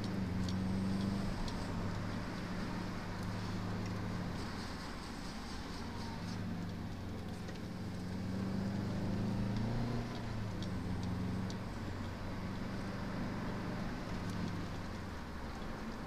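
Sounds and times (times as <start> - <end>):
car engine running: 0.0 - 16.0
tyre and road noise: 0.0 - 16.0.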